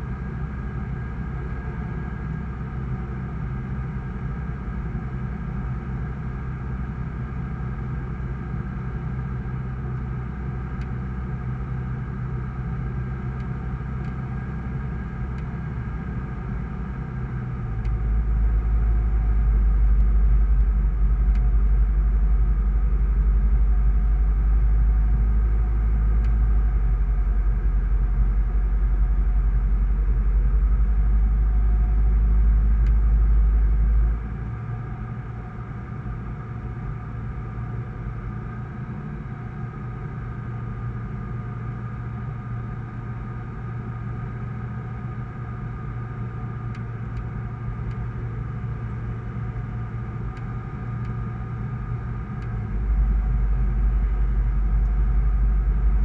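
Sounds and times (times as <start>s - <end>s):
deep rumble: 0.0s - 56.0s
light aircraft engine and propeller: 0.0s - 56.0s.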